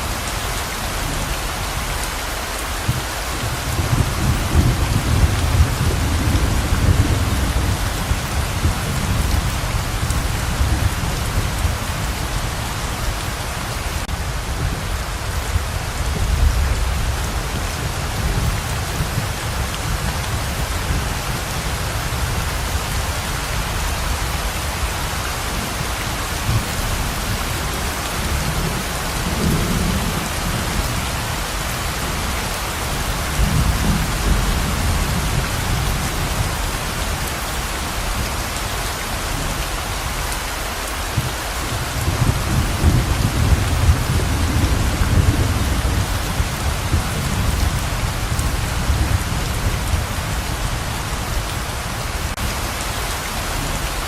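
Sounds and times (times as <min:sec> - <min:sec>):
heavy rain pouring: 0:00.0 - 0:54.0
low rolling thunder: 0:02.9 - 0:13.2, 0:14.0 - 0:37.4, 0:41.2 - 0:52.4.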